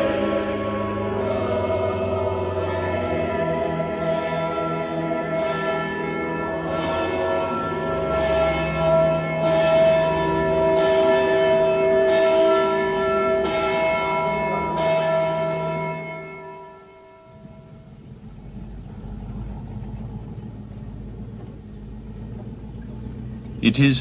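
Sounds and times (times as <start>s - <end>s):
church bells ringing: 0.0s - 24.0s
truck engine rumble: 0.0s - 24.0s.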